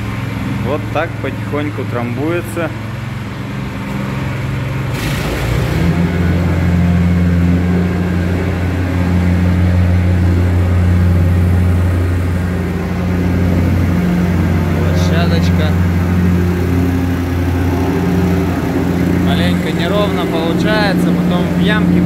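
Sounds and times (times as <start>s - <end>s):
plate compactor running: 0.0s - 22.0s.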